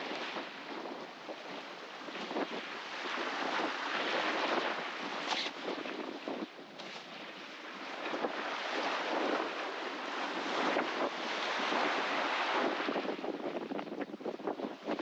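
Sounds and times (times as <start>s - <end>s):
waves rushing along hull: 0.0s - 15.0s
wind buffeting microphone: 0.0s - 15.0s.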